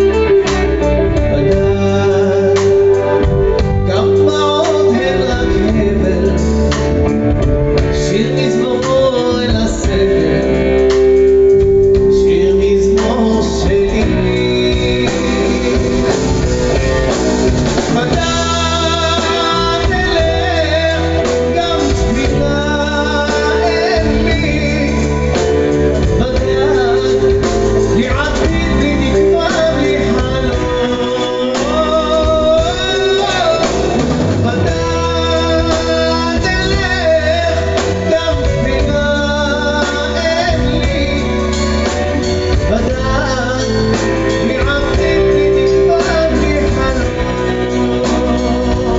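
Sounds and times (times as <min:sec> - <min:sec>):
person singing: 0:00.0 - 0:48.9
rock music with guitar: 0:00.0 - 0:48.9
steady bass notes: 0:00.0 - 0:48.9.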